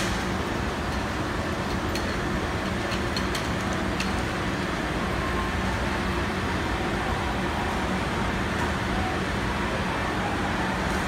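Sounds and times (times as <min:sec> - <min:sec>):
train humming at platform: 0:00.0 - 0:11.0.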